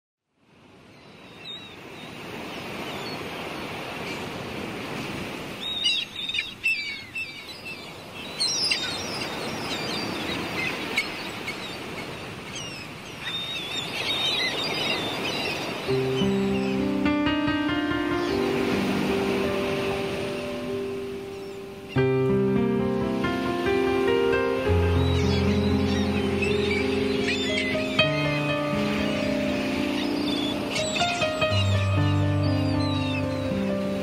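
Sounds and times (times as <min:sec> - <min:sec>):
surf washing: 0:00.5 - 0:34.0
birds chirping and calling: 0:01.0 - 0:04.3, 0:05.5 - 0:22.1, 0:23.6 - 0:34.0.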